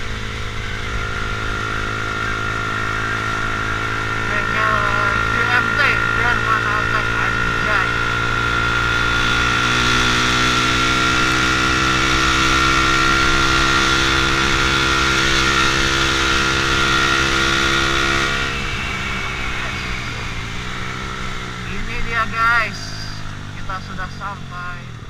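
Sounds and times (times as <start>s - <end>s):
motorcycle engine cruising: 0.0s - 25.0s
wind and road rush: 0.0s - 25.0s.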